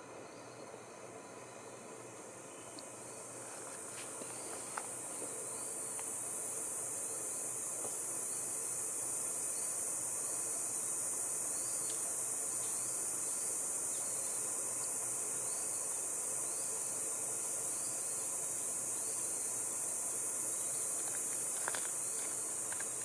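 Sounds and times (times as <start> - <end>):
shrill insect chorus: 0.0 - 23.0.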